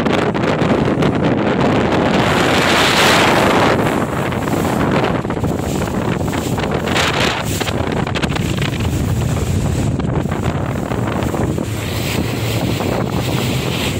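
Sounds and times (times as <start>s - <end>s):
motorboat engine running: 0.0s - 13.9s
water rushing along hull: 0.0s - 13.9s
wind buffeting microphone: 0.0s - 13.9s.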